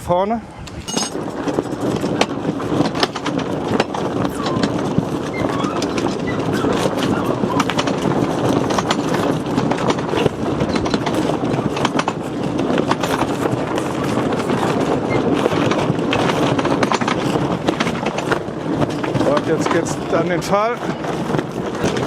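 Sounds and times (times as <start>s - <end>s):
strong wind on microphone: 0.0s - 22.0s
crackles and rattles: 0.6s - 22.0s.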